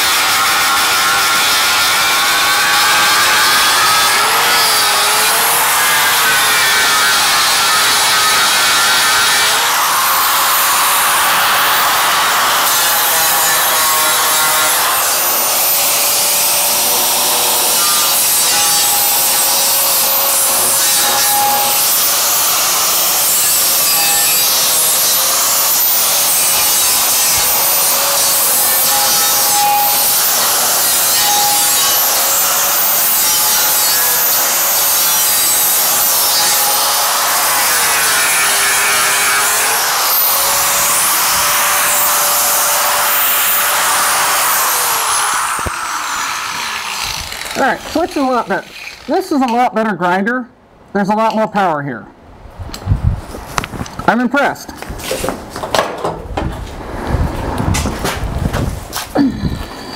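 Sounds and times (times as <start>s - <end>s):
angle grinder grinding steel: 0.0s - 49.6s, 57.0s - 59.9s.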